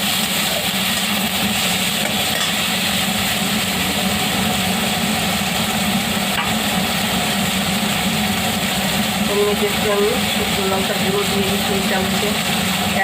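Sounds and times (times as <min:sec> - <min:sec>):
food sizzling in oil: 0:00.0 - 0:13.0
constant low hum: 0:00.8 - 0:13.0.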